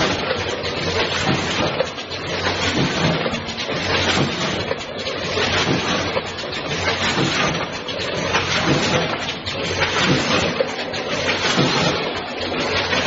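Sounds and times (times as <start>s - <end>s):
packing machine clattering: 0.0s - 13.0s.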